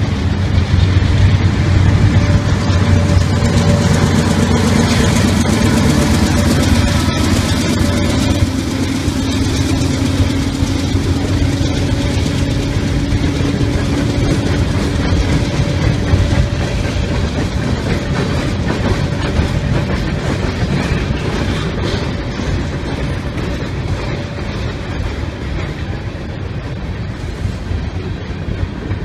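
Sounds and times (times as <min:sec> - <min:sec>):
diesel locomotives droning: 0:00.0 - 0:29.0
freight boxcars rumbling on rails: 0:00.0 - 0:29.0.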